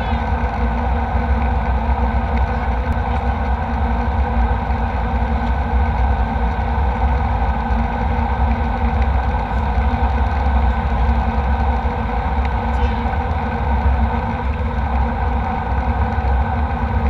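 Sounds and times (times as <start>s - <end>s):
jet airliner cabin noise: 0.0s - 17.0s.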